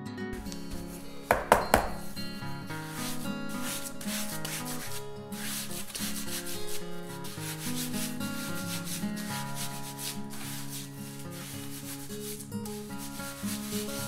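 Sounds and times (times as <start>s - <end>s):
trowel scraping wet clay: 0.4s - 14.0s.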